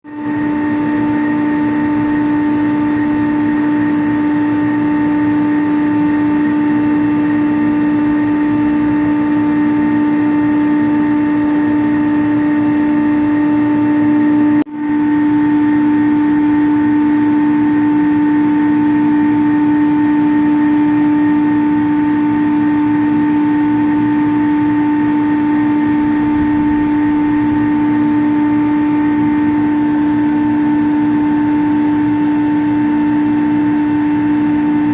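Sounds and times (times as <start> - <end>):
chiller machinery hum: 0.0 - 34.9.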